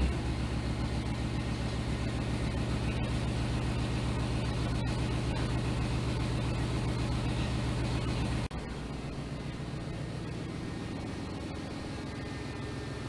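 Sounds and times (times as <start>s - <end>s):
loud engine idling: 0.0s - 13.0s.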